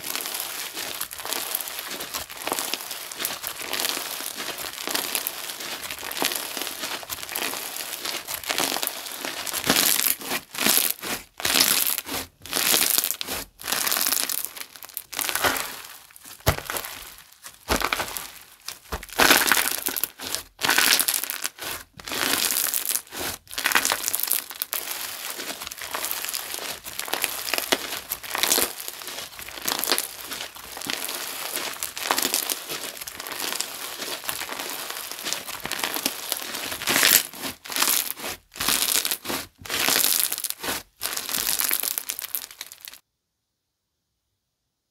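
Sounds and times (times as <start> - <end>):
slime crackling when squeezed: 0.0 - 43.0.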